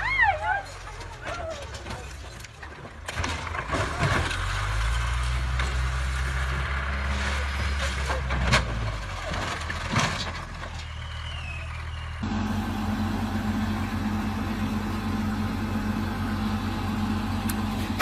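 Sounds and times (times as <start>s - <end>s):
large vehicle engine running: 0.6s - 18.0s.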